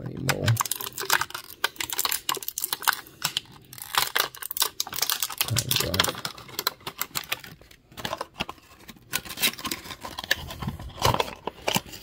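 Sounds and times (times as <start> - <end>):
packaging clicks and taps: 0.0 - 12.0.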